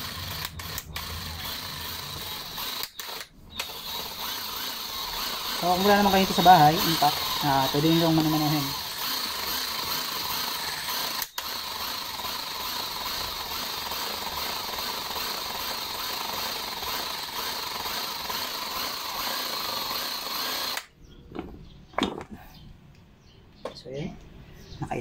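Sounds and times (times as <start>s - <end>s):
impact driver running: 0.0s - 20.9s.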